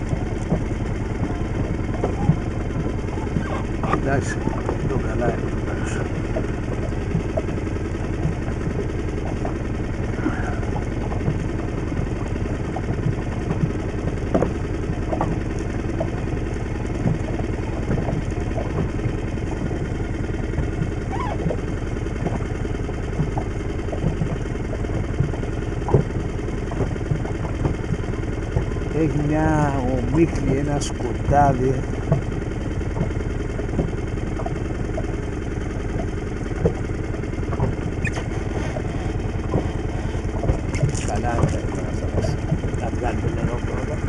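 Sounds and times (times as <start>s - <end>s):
boat engine idling: 0.0s - 44.0s.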